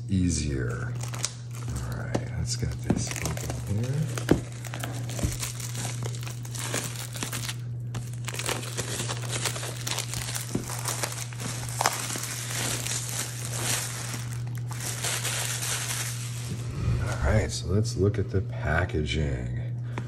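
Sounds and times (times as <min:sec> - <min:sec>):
low steady hum: 0:00.0 - 0:20.0
plastic wrap crinkling: 0:00.5 - 0:17.2.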